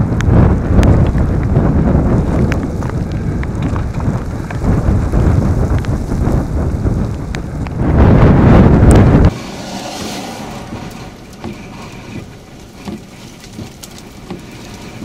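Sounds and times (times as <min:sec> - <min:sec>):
rain ticks: 0:00.0 - 0:08.2, 0:08.8 - 0:15.0
storm wind buffeting microphone: 0:00.0 - 0:15.0.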